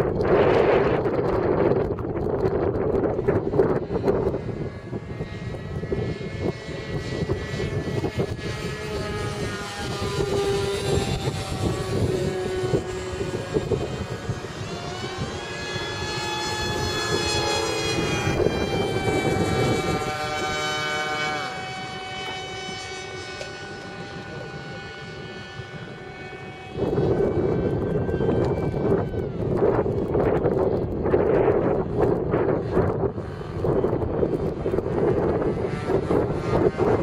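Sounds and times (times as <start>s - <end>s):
model plane motor whining: 0.0s - 37.0s
wind buffeting microphone: 0.0s - 37.0s.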